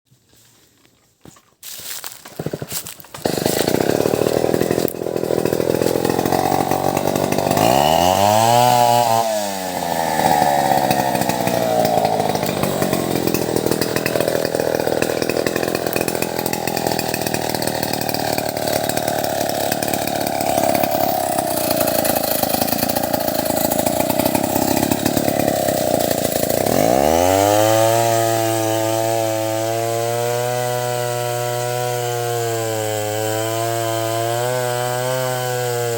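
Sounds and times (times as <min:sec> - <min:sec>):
chainsaw cutting wood: 0:01.6 - 0:35.9.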